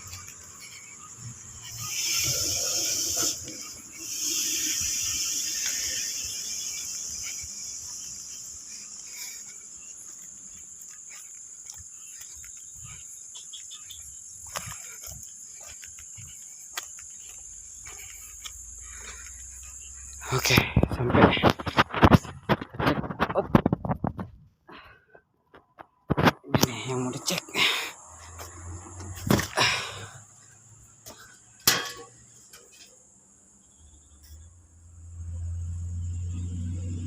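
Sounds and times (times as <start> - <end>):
night insects droning: 0.0 - 24.9, 25.5 - 37.0.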